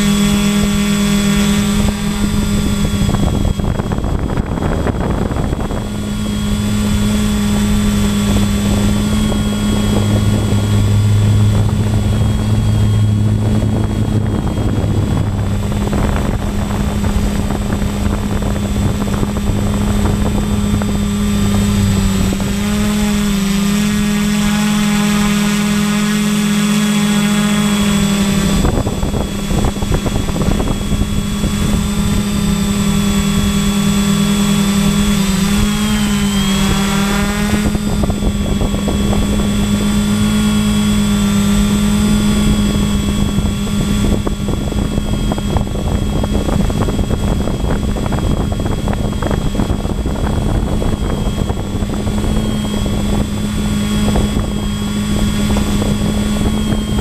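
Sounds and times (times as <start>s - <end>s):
model aircraft motor droning: 0.0s - 57.0s
wind rushing over microphone: 0.0s - 57.0s.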